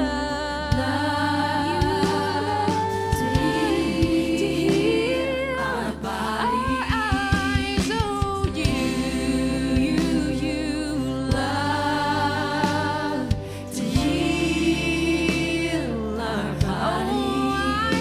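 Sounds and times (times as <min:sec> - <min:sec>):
low sustained instrumental backing: 0:00.0 - 0:18.0.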